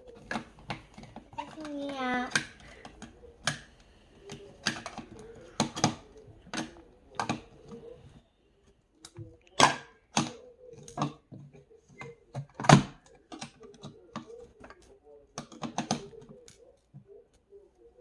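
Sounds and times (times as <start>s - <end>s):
plastic toy blocks clicking: 0.0s - 7.9s, 9.0s - 16.7s.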